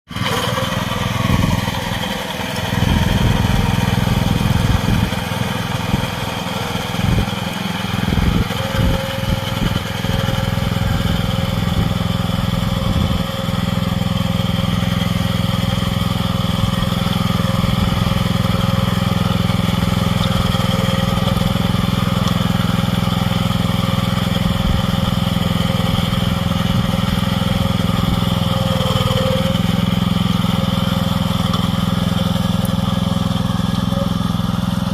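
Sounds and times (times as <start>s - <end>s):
small farm machine engine running: 0.1s - 34.9s.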